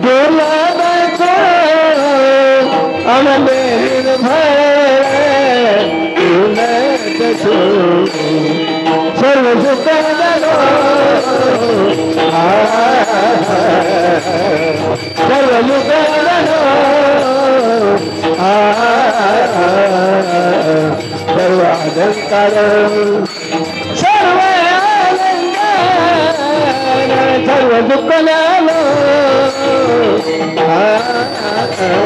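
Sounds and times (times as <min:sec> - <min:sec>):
person singing devotional melody: 0:00.0 - 0:32.0
sustained accompaniment: 0:00.0 - 0:32.0.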